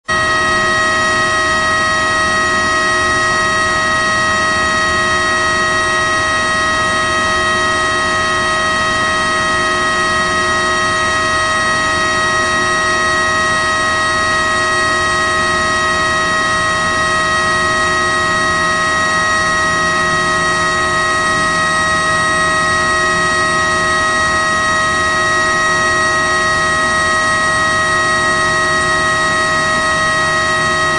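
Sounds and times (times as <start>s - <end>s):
fan whining: 0.0s - 30.9s.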